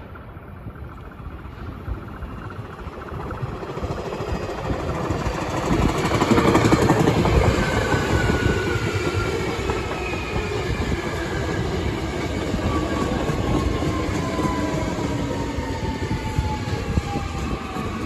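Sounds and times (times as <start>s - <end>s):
train wheels clattering on rails: 2.3s - 18.0s.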